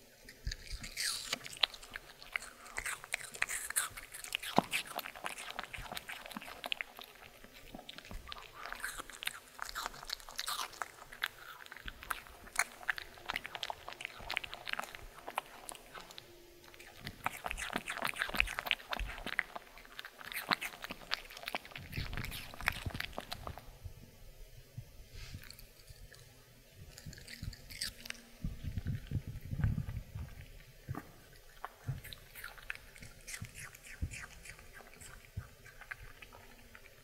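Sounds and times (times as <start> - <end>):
dog crunching apple: 0.2 - 23.7, 26.9 - 37.0.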